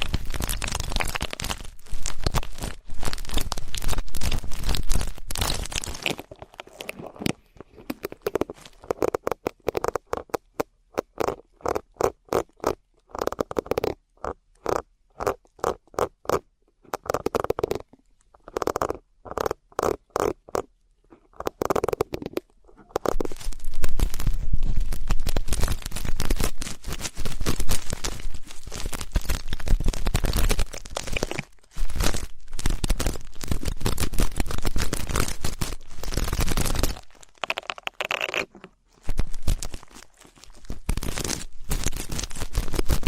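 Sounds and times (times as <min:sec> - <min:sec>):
crackling and scratching: 0:00.0 - 0:43.0.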